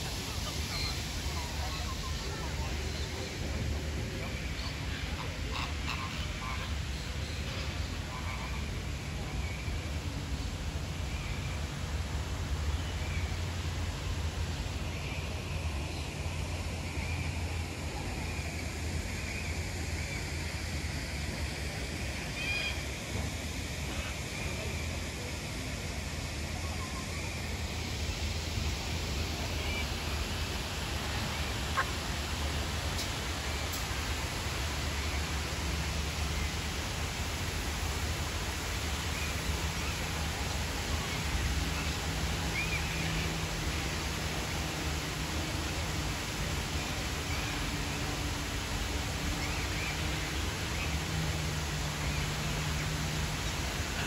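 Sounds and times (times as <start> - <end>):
open-air hiss: 0.0 - 54.0.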